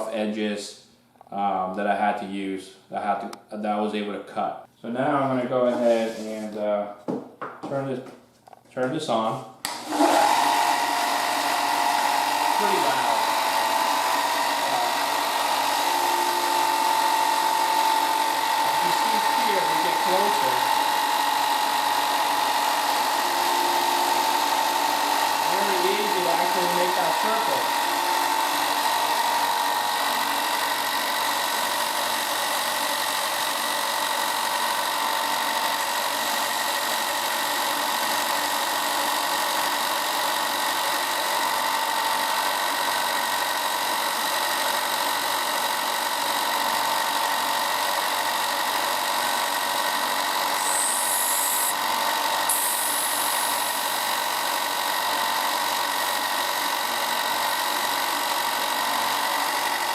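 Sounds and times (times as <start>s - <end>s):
disc sander whining: 9.7s - 59.9s.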